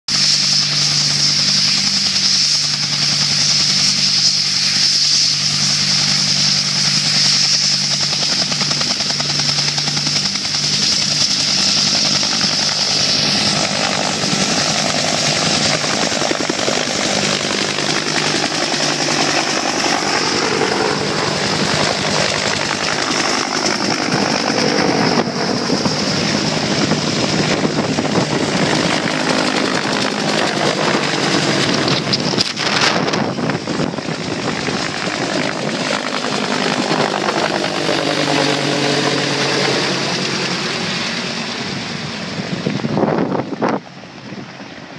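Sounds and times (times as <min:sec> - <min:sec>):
helicopter rotor chop: 0:00.1 - 0:44.9
helicopter turbine whine: 0:00.1 - 0:44.9.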